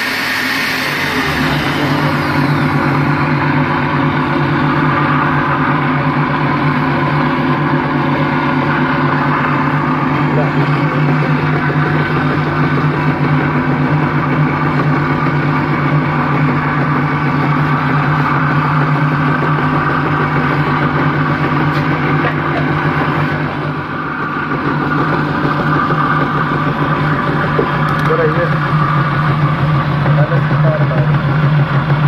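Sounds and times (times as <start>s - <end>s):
electric motor humming and whirring: 0.0s - 32.0s.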